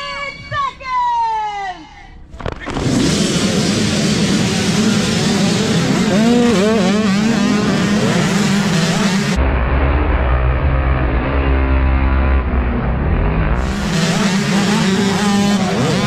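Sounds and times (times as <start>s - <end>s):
dirt bike engines revving: 2.4s - 16.0s
single engine revving: 2.7s - 16.0s.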